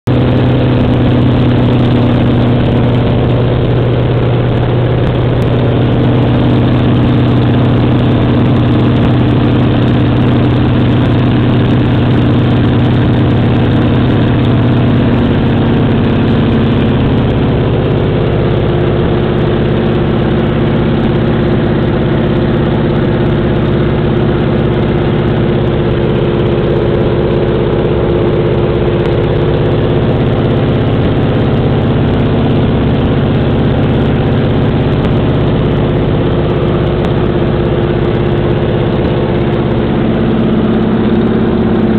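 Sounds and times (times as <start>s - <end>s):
radial aircraft engine drone: 0.0s - 41.9s.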